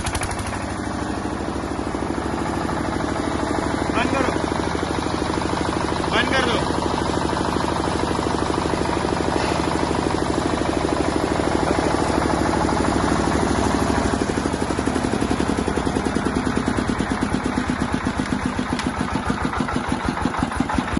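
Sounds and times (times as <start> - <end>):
diesel generator running: 0.0 - 20.9.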